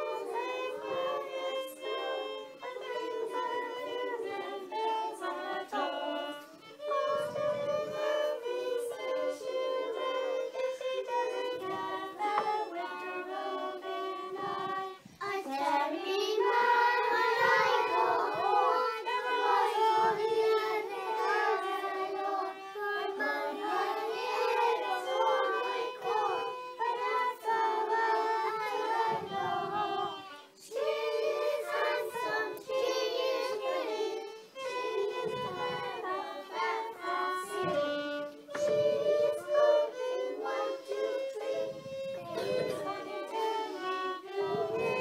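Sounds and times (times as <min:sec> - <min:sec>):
fiddle playing folk tune: 0:00.0 - 0:45.0
young children singing: 0:00.0 - 0:45.0.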